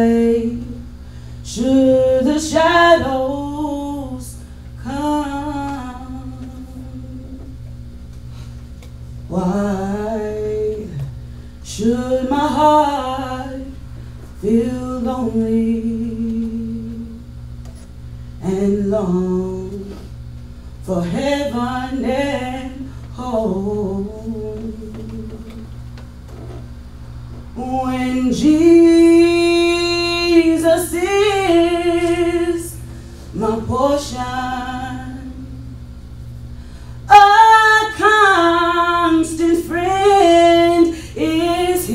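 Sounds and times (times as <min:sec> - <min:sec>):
woman singing with vibrato: 0:00.0 - 0:07.6, 0:09.3 - 0:17.3, 0:18.4 - 0:20.0, 0:20.8 - 0:25.8, 0:27.6 - 0:35.8, 0:37.1 - 0:41.9
faint low pulsing hum: 0:00.0 - 0:41.9.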